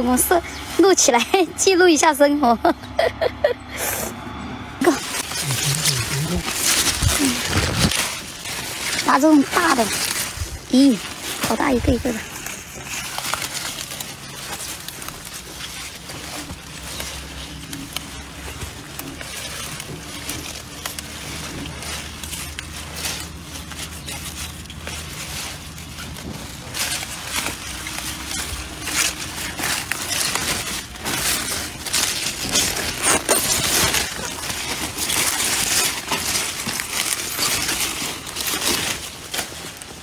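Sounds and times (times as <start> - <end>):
leaves rustling and crunching: 0.0 - 4.1, 4.8 - 40.0.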